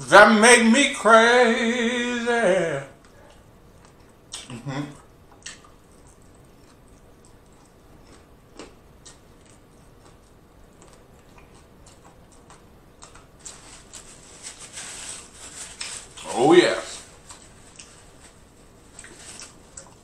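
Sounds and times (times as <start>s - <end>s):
chewing fried food: 3.0s - 20.0s.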